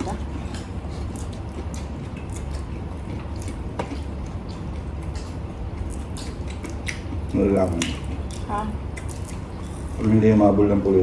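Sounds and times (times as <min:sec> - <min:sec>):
person chewing food: 0:00.0 - 0:10.2.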